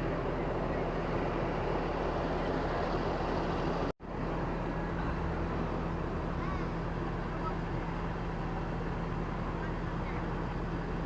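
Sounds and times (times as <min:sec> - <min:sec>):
motor vehicle running: 0:00.0 - 0:11.0.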